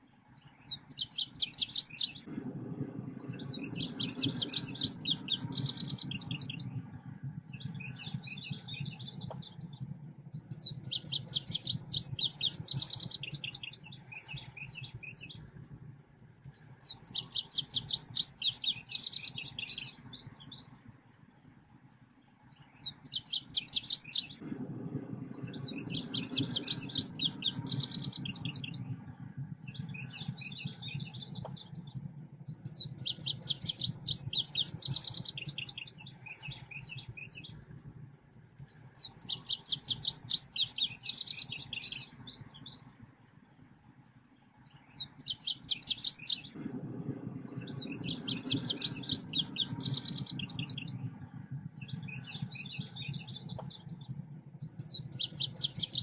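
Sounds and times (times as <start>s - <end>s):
bird chirping and twittering: 0.3s - 2.6s, 3.2s - 15.5s, 16.5s - 21.0s, 22.4s - 37.6s, 38.6s - 43.1s, 44.6s - 56.0s
low rumble: 1.6s - 56.0s.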